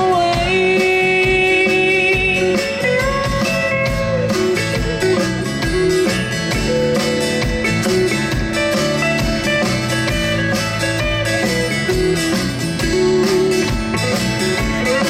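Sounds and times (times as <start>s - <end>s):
bass: 0.0s - 15.0s
lead guitar bending notes: 0.0s - 15.0s
steady drum beat: 0.0s - 15.0s.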